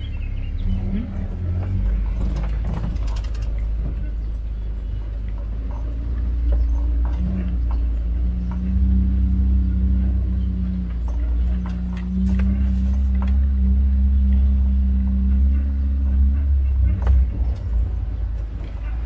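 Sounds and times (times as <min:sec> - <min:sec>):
vehicle engine running: 0:00.0 - 0:19.0
knocks and rattles from bumps: 0:00.7 - 0:19.0.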